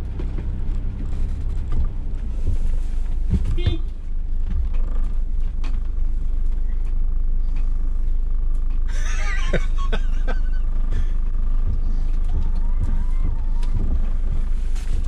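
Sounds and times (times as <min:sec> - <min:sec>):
van cab rumble: 0:00.0 - 0:15.0.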